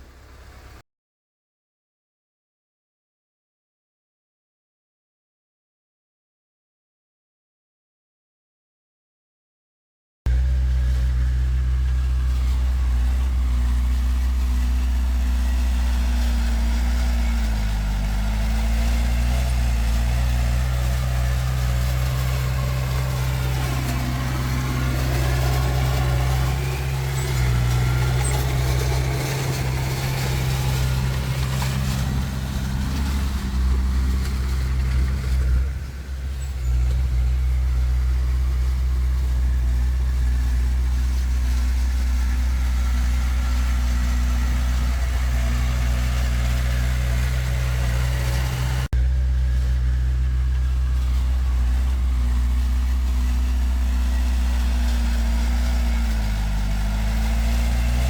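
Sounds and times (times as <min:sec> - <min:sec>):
heavy machinery diesel engine running: 0:00.0 - 0:00.8, 0:10.3 - 0:58.0.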